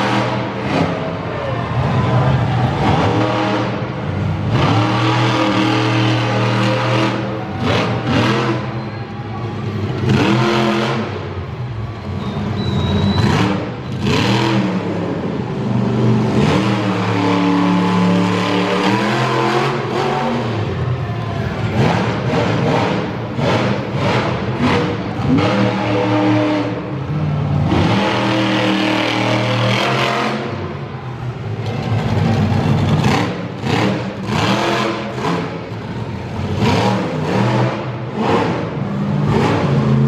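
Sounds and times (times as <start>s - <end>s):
monster truck engine revving: 0.0s - 40.0s.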